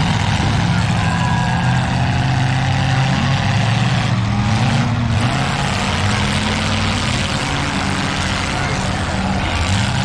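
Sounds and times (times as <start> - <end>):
car engines revving: 0.0 - 10.0.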